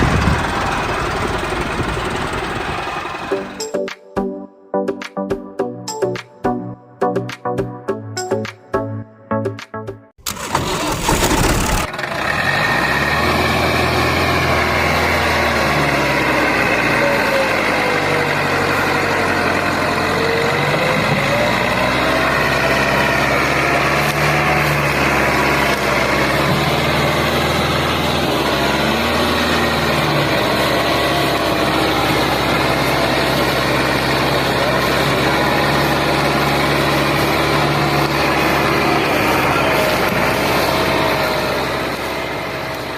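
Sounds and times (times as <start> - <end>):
engine running: 0.0 - 3.8, 10.2 - 42.9.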